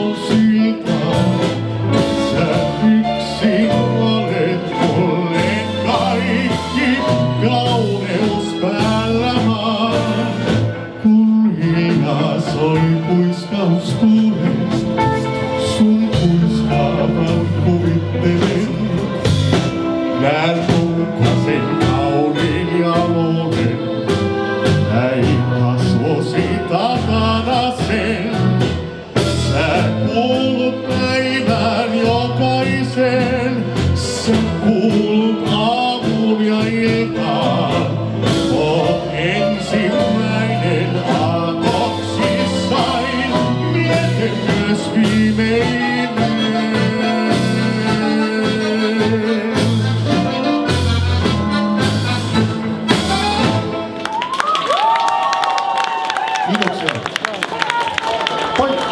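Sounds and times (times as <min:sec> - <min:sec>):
man singing: 0:00.0 - 0:51.5
live dance band playing ballad: 0:00.0 - 0:58.9.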